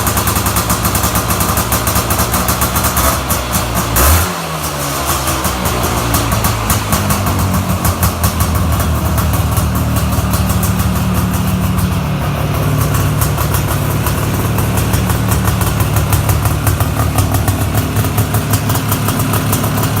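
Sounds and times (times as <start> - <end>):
two-stroke engine running steadily: 0.0 - 20.0.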